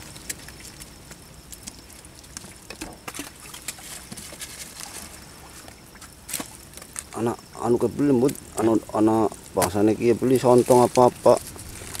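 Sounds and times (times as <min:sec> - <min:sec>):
wet shrimp and fish being stirred: 0:00.0 - 0:12.0.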